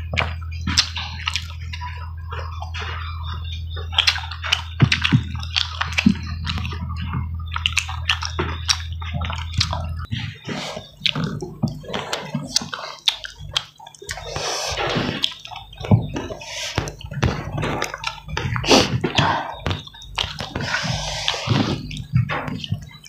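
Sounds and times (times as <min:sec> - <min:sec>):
fingers squishing food: 0:00.0 - 0:23.0
low steady hum: 0:00.0 - 0:23.0
wet chewing and lip smacking: 0:00.0 - 0:23.0.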